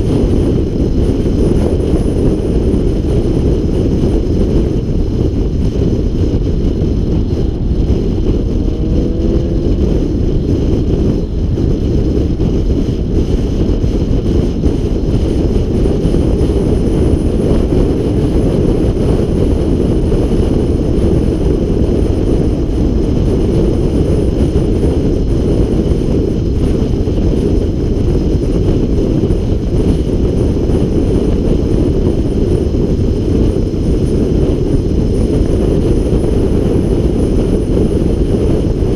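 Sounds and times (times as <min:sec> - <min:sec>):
wind and road noise rumble: 0:00.0 - 0:38.9.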